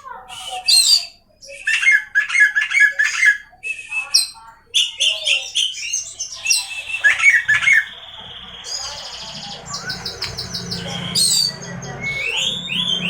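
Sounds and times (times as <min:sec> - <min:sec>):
magpie-robin singing: 0:00.1 - 0:13.0.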